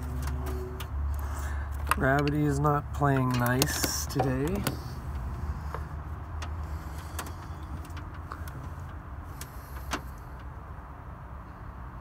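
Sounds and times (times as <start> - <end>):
clicks and taps of wires: 0.1 - 10.5.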